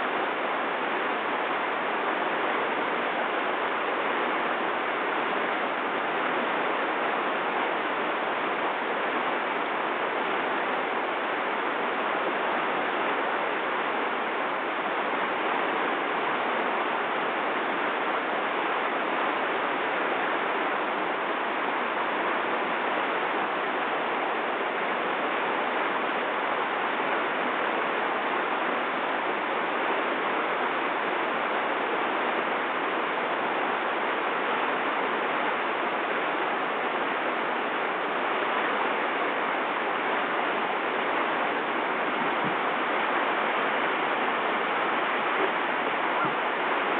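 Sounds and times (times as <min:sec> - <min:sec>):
river rapids rushing: 0:00.0 - 0:46.9.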